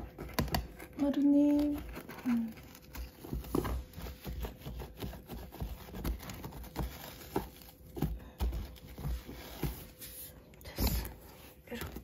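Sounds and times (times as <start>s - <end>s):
rubbing and handling noise: 0.0s - 12.0s.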